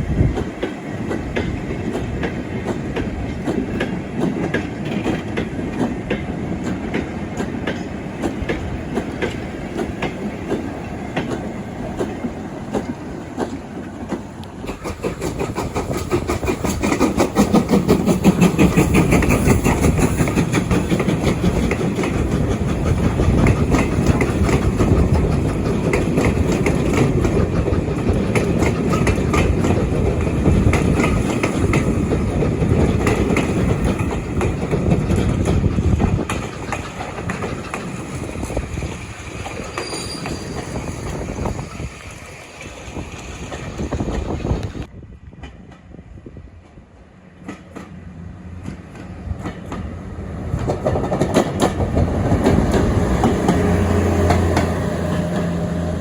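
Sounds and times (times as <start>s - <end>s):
train wheels clicking over rail joints: 0.0s - 46.0s, 46.6s - 56.0s
train rumble: 0.0s - 56.0s.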